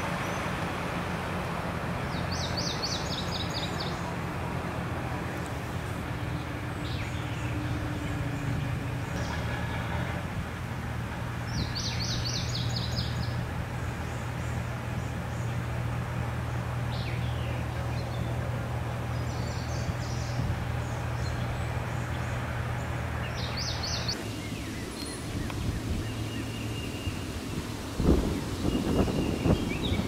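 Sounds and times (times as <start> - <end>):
broad rushing noise: 0.0 - 30.0
low engine hum: 0.0 - 30.0
birds chirping: 1.4 - 30.0.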